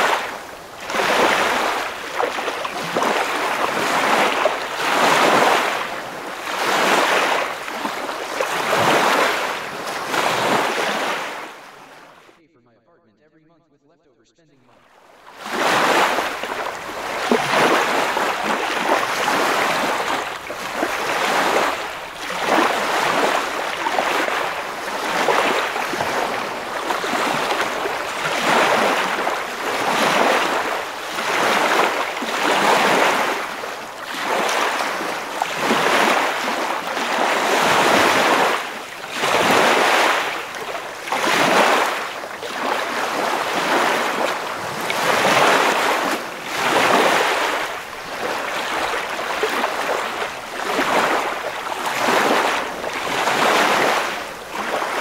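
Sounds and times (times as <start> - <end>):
ocean waves washing in: 0.0 - 12.4, 14.9 - 55.0.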